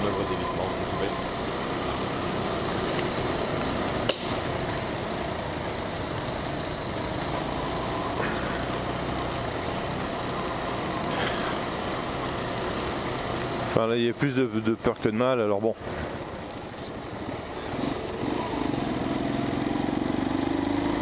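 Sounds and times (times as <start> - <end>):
motorcycle engine running: 0.0 - 21.0
road noise on wet street: 0.0 - 21.0.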